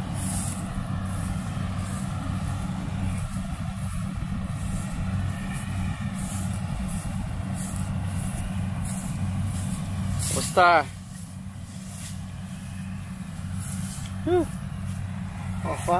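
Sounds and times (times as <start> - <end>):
harvester engine drone: 0.0 - 15.9.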